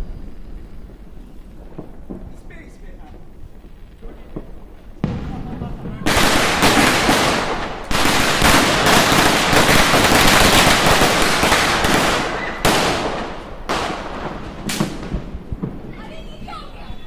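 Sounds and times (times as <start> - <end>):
firecracker bangs: 0.0 - 17.0
firecrackers crackling: 0.0 - 17.0.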